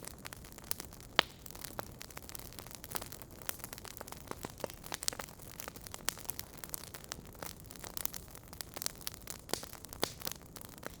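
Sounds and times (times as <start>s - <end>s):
sharp pops of burning logs: 0.0s - 11.0s
wood fire crackling: 0.0s - 11.0s.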